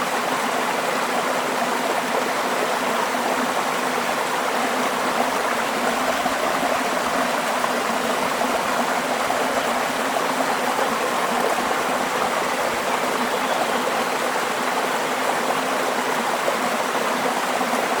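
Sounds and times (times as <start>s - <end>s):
small waterfall splashing: 0.0s - 18.0s.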